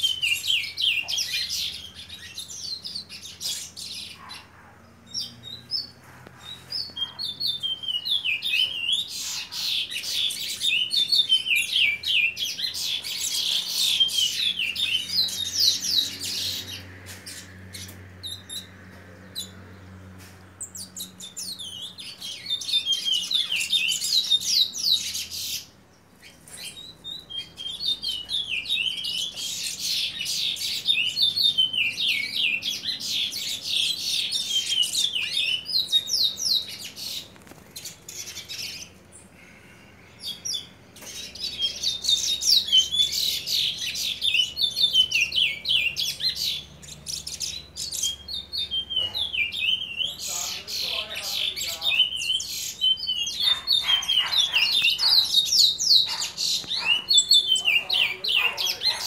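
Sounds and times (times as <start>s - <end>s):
finch singing rapid chirps: 0.0s - 19.6s, 20.6s - 39.3s, 40.2s - 59.0s.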